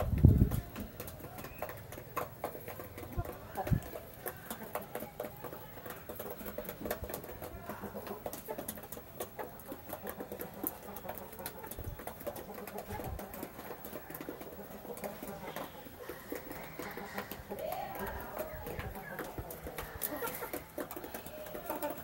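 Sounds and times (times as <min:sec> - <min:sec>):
beaks pecking metal dish: 0:00.0 - 0:22.0
chickens clucking softly: 0:00.0 - 0:22.0.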